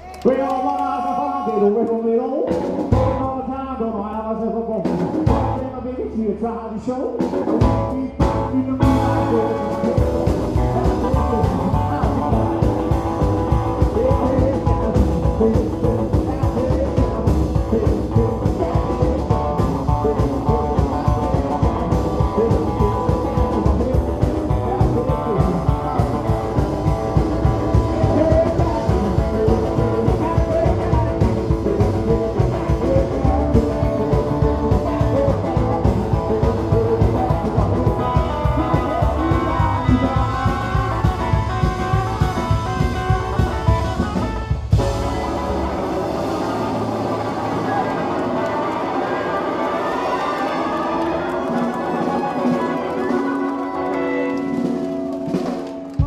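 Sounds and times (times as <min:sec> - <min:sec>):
electric guitar: 0:00.0 - 0:04.2, 0:07.1 - 0:56.0
drums: 0:00.0 - 0:56.0
upright bass: 0:00.0 - 0:56.0.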